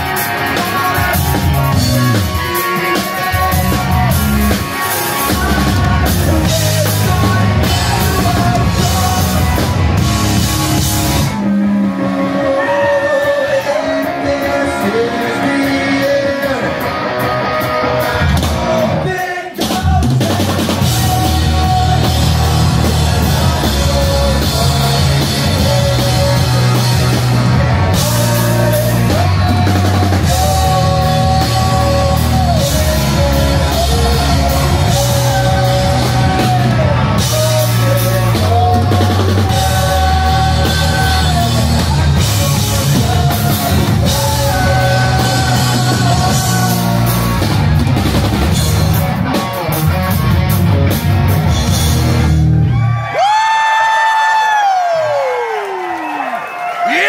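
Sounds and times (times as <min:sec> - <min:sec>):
live rock band playing: 0:00.0 - 0:53.7.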